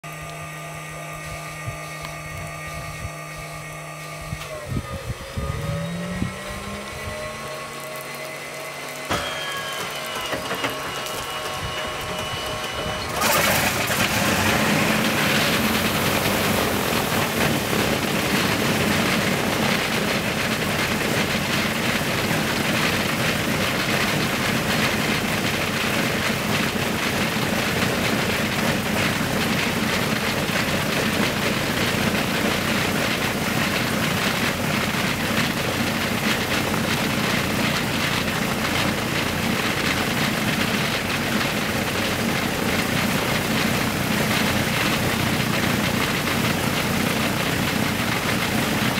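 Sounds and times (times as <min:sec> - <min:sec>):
radial engine running: 0:00.0 - 0:48.9
starter whine: 0:00.0 - 0:48.9.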